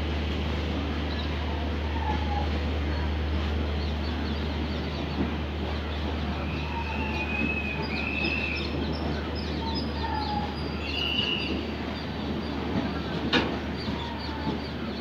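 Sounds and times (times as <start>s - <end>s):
train coaches rumbling: 0.0s - 15.0s.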